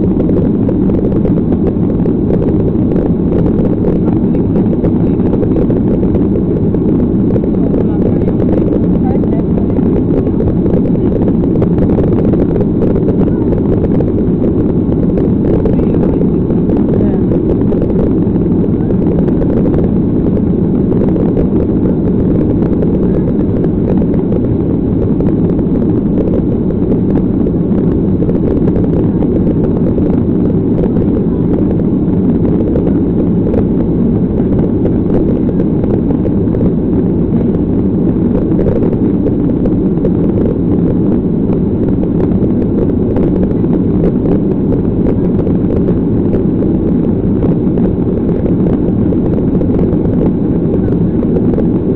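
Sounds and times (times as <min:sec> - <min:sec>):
jet engine cabin noise: 0:00.0 - 0:51.9.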